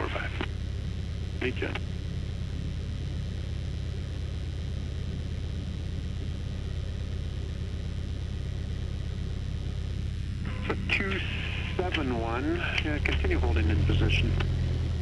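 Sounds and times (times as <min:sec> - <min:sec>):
aircraft engine idling: 0:00.0 - 0:15.0.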